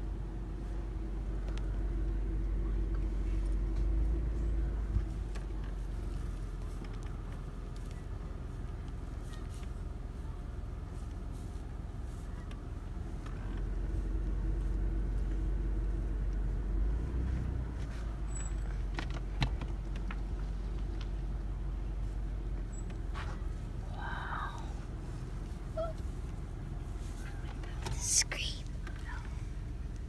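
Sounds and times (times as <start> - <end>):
car interior engine rumble: 0.0 - 30.0.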